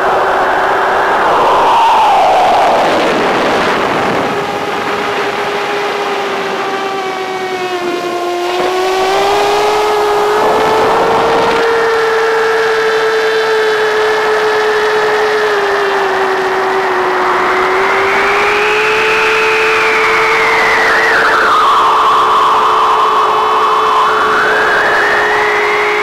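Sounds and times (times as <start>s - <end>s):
drone motors and propellers: 0.0s - 26.0s.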